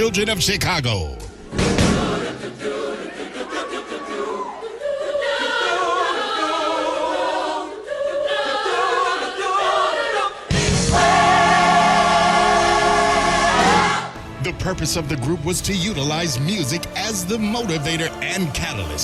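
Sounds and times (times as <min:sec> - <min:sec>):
choir singing held notes: 0:01.5 - 0:19.0.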